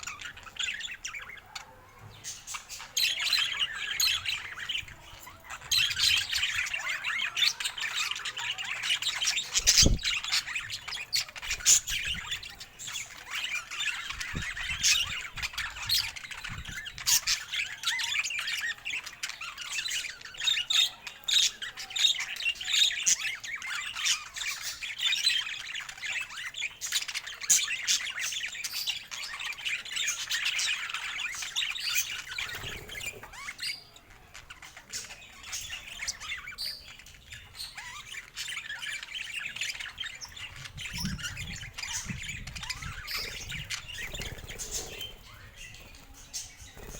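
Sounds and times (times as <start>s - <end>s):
parakeets chattering: 0.0s - 46.9s.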